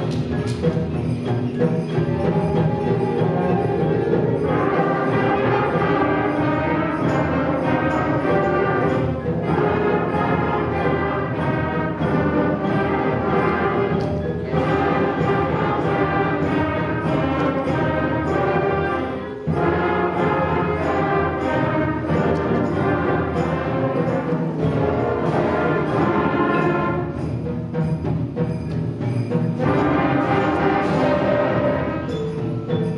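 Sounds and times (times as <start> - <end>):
concert band playing: 0.0 - 32.9
percussion hits: 0.0 - 32.9.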